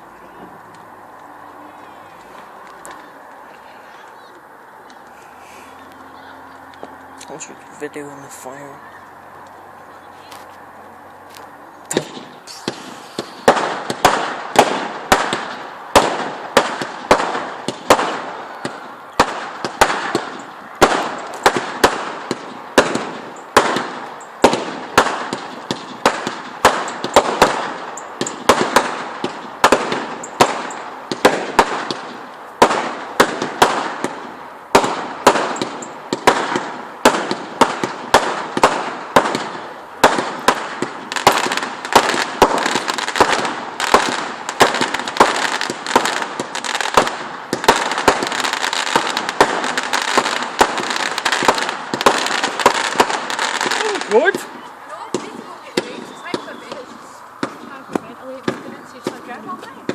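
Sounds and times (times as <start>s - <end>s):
fireworks banging: 0.0s - 8.8s, 10.2s - 59.9s
fireworks crackling: 0.0s - 59.9s.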